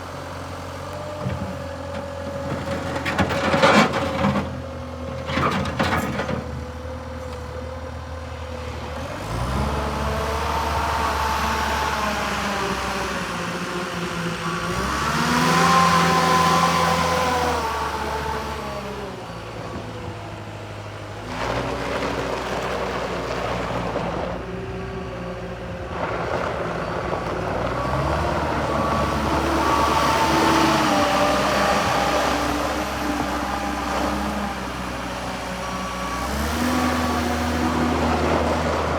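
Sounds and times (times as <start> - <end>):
skid steer diesel engine running: 0.0 - 38.9.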